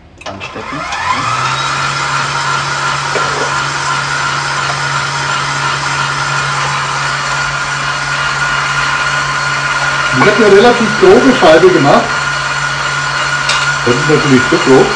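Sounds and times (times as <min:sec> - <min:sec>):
stand mixer motor humming and whining: 0:00.3 - 0:14.9.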